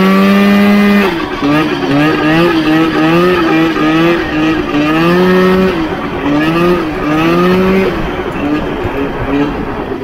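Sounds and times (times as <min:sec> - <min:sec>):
two-stroke engine revving: 0:00.0 - 0:10.0.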